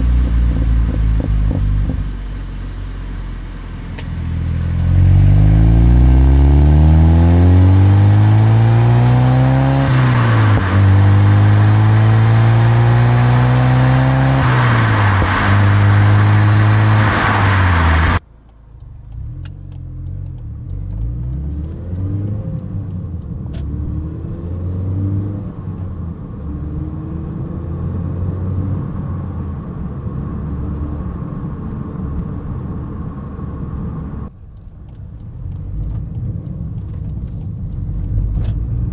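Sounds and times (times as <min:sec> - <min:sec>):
car engine accelerating through gears: 0:00.0 - 0:38.9
quiet engine at low revs: 0:00.0 - 0:38.9.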